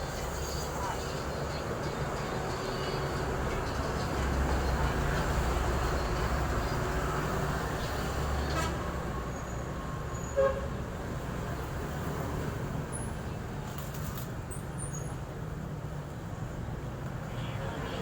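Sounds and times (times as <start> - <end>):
engine and traffic: 0.0 - 18.0.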